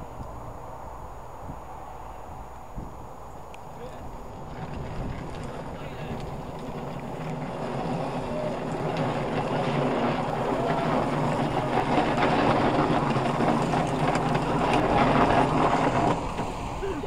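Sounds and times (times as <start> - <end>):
plastic wheels rumbling on tarmac: 2.6 - 17.0.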